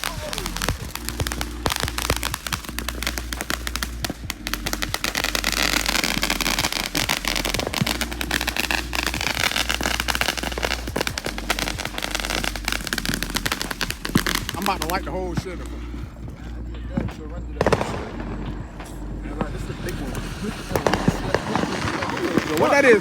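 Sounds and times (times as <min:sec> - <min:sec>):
firework whistle: 0:00.0 - 0:16.2, 0:17.6 - 0:23.0
fireworks cracking and popping: 0:00.0 - 0:23.0.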